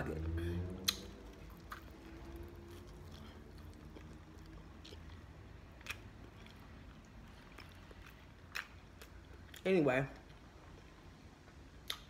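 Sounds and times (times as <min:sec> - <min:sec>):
person chewing a sandwich: 0:00.7 - 0:09.6, 0:10.2 - 0:12.0.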